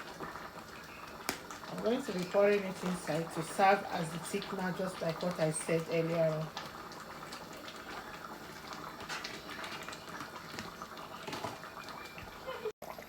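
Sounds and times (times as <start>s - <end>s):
sauce bubbling in a pot: 0.0s - 13.0s.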